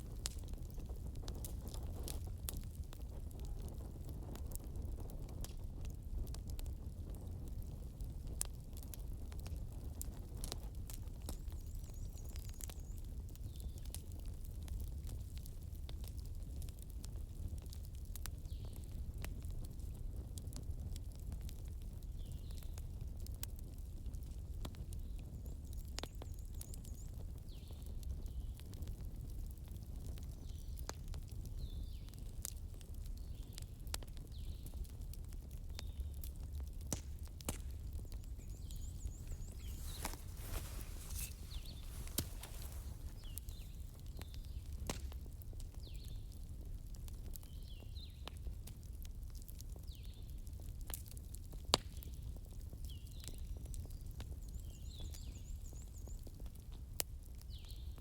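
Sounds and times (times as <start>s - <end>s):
bonfire flames rumbling: 0.0s - 58.0s
fire crackles and pops: 0.0s - 58.0s.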